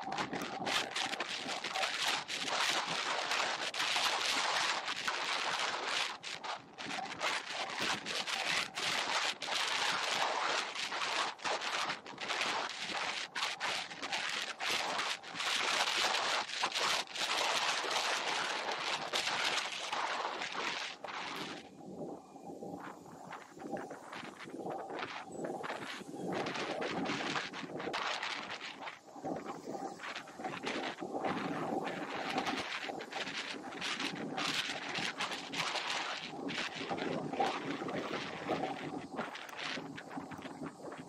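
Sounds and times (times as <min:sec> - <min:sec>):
bike tyres rolling on asphalt: 0:00.0 - 0:41.0
wind rushing over microphone: 0:00.0 - 0:41.0.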